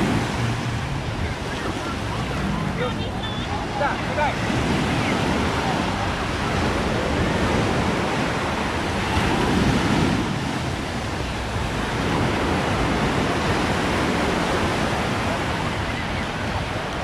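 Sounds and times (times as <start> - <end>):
small waves washing on beach: 0.0 - 17.0.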